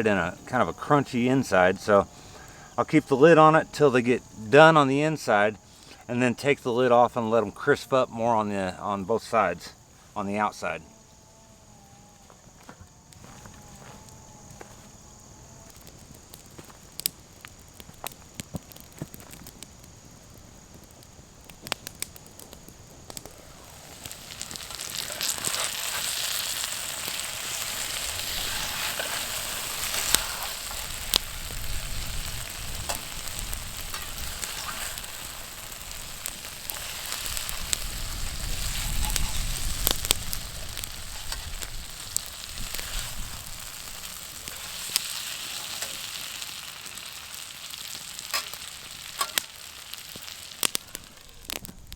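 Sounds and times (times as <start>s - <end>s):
potatoes sizzling in oil: 0.0s - 6.1s, 13.0s - 51.9s.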